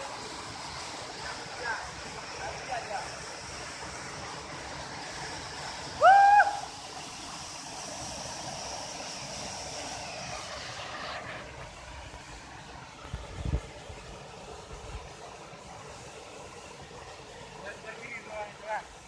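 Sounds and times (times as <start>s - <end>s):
rushing stream water: 0.0s - 19.0s.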